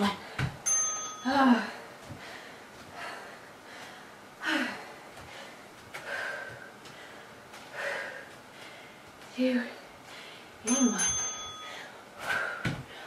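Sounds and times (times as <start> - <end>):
woman breathing hard: 1.5 - 10.6, 11.3 - 13.0.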